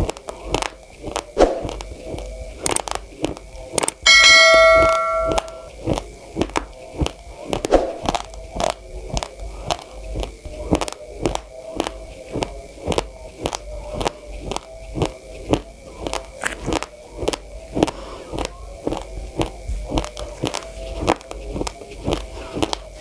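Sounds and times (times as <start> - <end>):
raw rice crunching between teeth: 0.0 - 4.0, 5.8 - 23.0.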